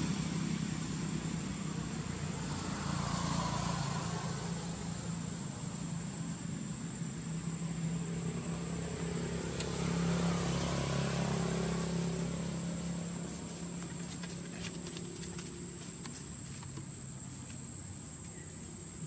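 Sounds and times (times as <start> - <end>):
vehicle engine passing by: 0.0 - 17.8.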